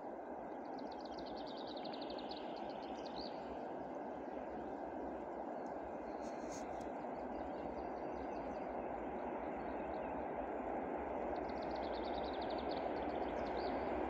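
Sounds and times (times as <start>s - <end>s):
distant freight train rumble: 0.0s - 14.0s.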